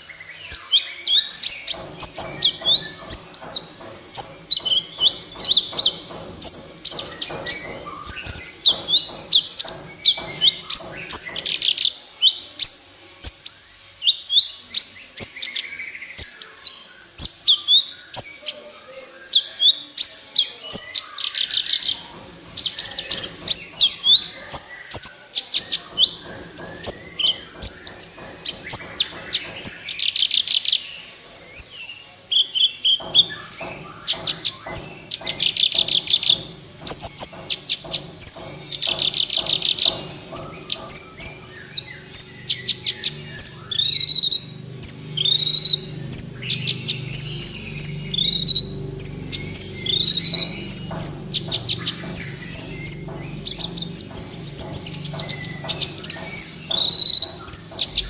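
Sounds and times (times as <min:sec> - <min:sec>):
bird singing with chirps and trills: 0:00.0 - 0:58.0.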